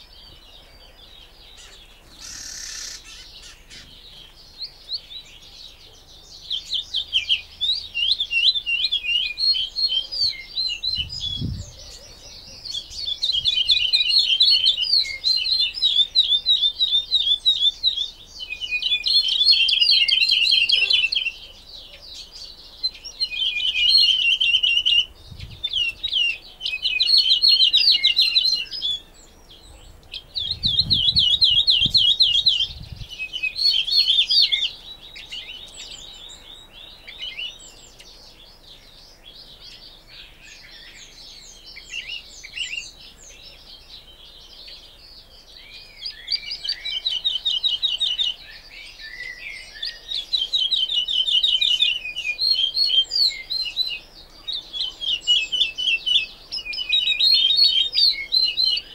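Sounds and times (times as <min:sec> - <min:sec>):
woodlark singing trilled phrases: 0:01.0 - 0:05.8, 0:06.4 - 0:38.1, 0:45.7 - 0:58.9.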